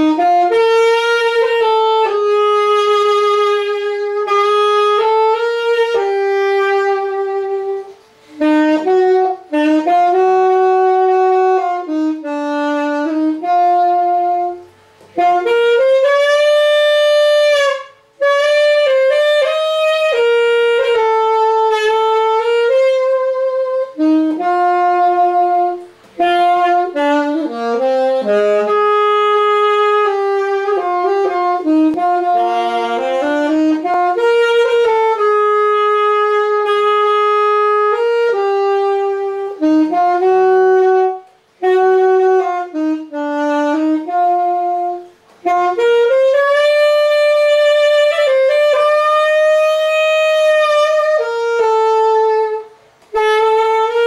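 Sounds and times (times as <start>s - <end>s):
alto saxophone melody: 0.0s - 54.0s.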